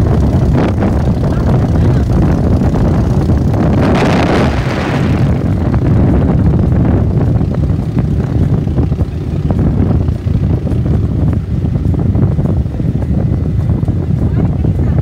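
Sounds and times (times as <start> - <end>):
boat motor running: 0.0 - 15.0
rush of noise: 0.0 - 15.0
wind rumbling on microphone: 0.0 - 15.0.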